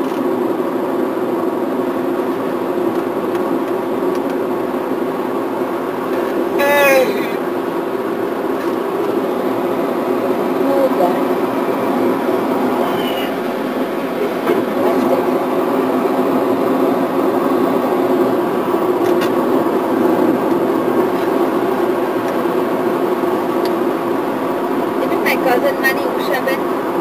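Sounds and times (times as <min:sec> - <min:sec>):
car driving at highway speed: 0:00.0 - 0:27.0.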